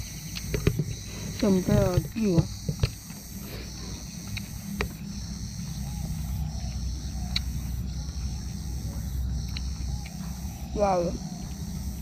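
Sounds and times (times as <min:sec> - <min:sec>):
chewing with crunches: 0:00.0 - 0:12.0
high insect buzz: 0:00.0 - 0:12.0.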